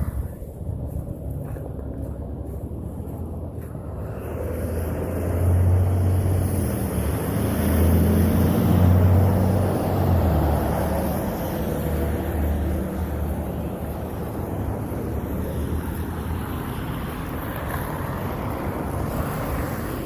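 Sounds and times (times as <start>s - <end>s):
vehicle engine passing by: 0.0s - 20.0s.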